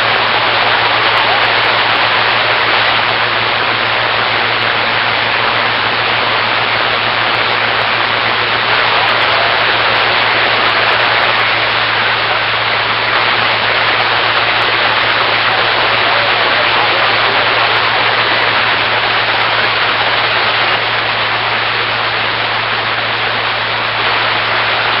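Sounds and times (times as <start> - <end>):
constant low hum: 0.0 - 25.0
steady rushing noise: 0.0 - 25.0.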